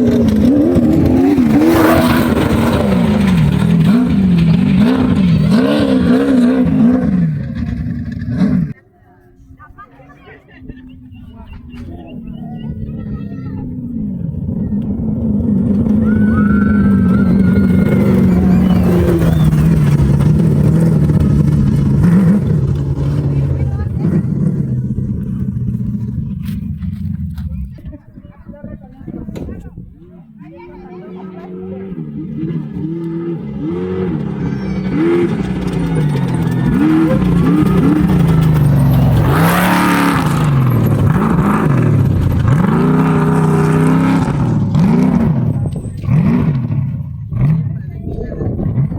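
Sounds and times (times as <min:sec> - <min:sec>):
race vehicle engine running hard: 0:00.0 - 0:08.8, 0:10.8 - 0:48.9.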